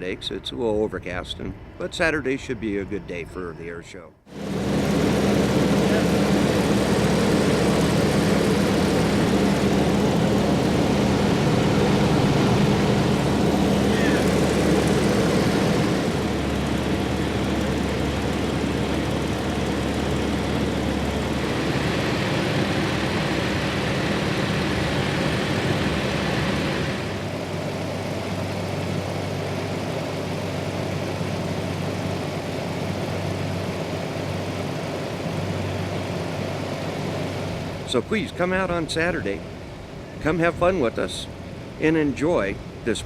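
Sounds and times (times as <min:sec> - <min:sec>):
propeller aircraft engine in flight: 0:04.3 - 0:43.0.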